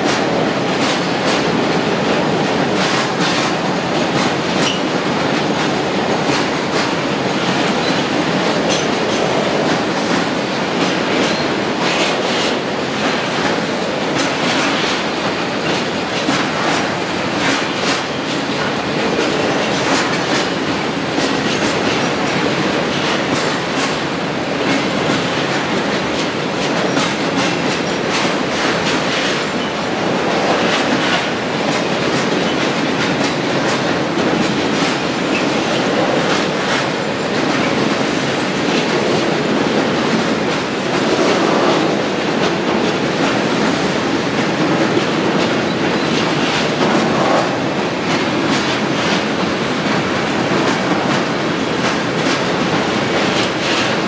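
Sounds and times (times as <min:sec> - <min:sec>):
train wheels rumbling on rail: 0:00.0 - 0:54.0
wheels clicking over rail joints: 0:00.0 - 0:54.0.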